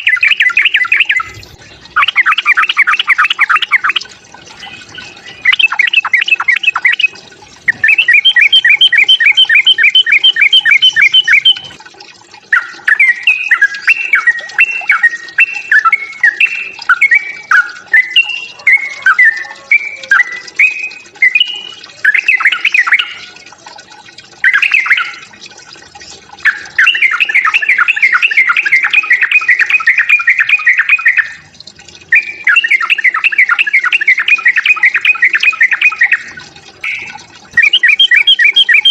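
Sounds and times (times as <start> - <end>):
bird singing bubbling notes: 0.0 - 38.9.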